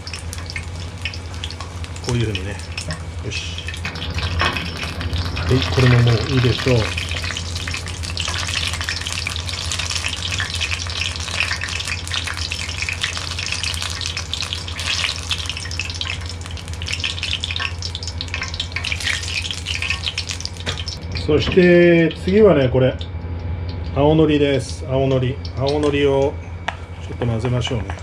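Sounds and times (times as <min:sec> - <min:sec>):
oil sizzling and popping: 0:00.0 - 0:21.4, 0:25.4 - 0:26.8
steady low hum: 0:00.0 - 0:28.0.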